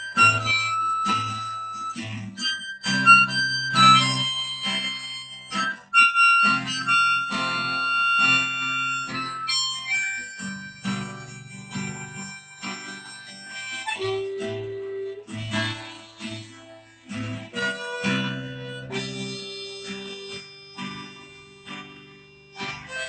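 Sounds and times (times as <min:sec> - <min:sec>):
harmonica melody: 0:00.0 - 0:23.0
strummed acoustic guitar: 0:00.0 - 0:23.0.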